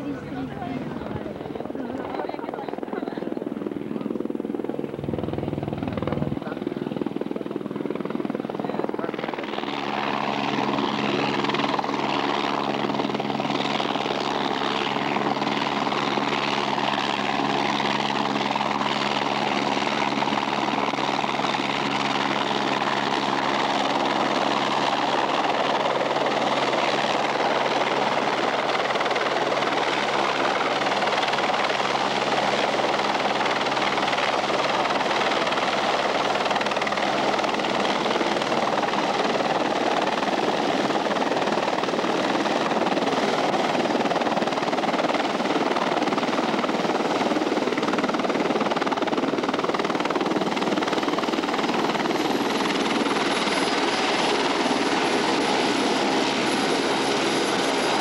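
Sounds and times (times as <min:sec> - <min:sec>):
helicopter rotor droning: 0:00.0 - 0:58.0.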